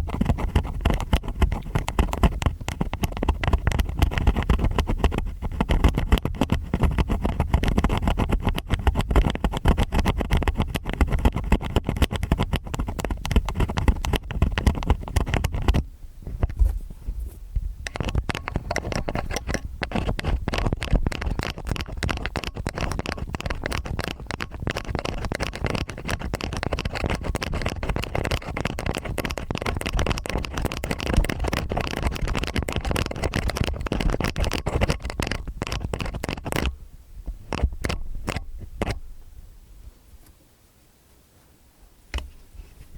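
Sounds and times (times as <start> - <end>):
ear picks scraping in ears: 0.0 - 39.0.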